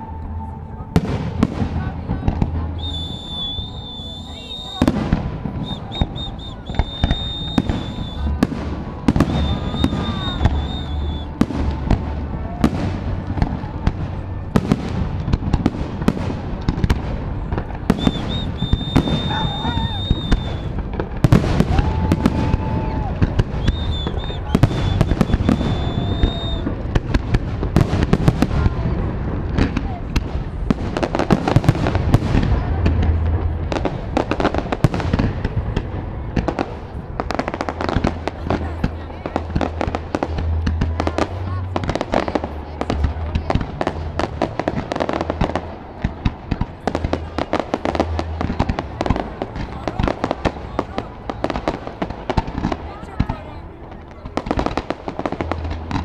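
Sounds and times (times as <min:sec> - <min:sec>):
fireworks bangs and crackling: 0:00.0 - 0:56.0
high whistling fireworks: 0:00.0 - 0:56.0.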